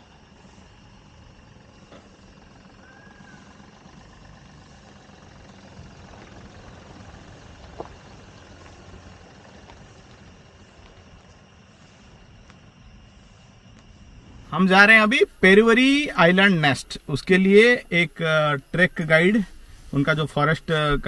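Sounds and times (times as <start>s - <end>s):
engine rumbling at low speed: 0.0s - 21.0s
high insect drone: 0.0s - 21.0s.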